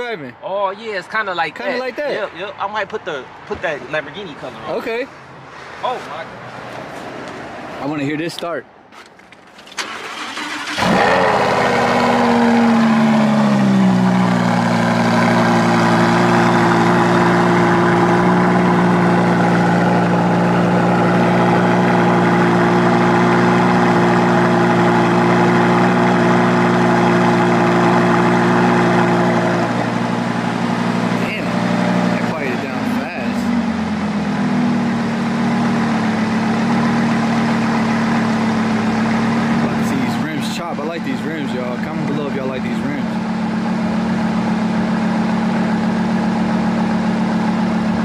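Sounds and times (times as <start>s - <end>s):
car engine starting and idling: 9.0s - 48.0s.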